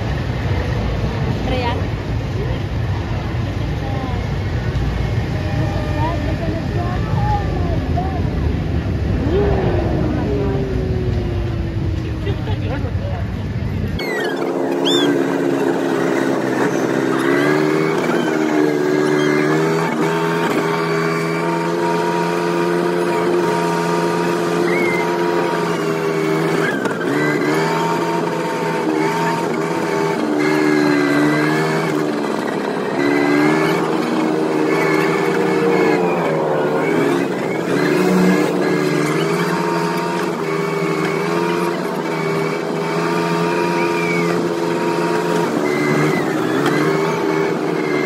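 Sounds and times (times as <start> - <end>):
go-kart engine running: 0.0 - 48.0.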